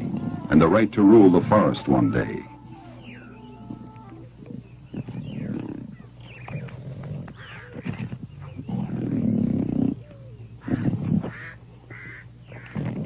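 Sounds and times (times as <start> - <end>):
leopards snarling and growling: 0.0 - 13.0.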